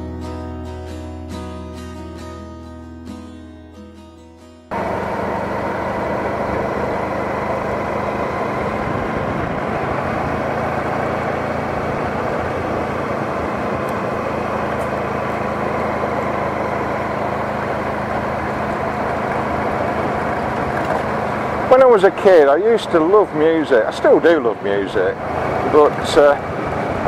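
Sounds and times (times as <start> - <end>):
motorcycle engine running: 4.7 - 27.0
wind and road noise: 4.7 - 27.0.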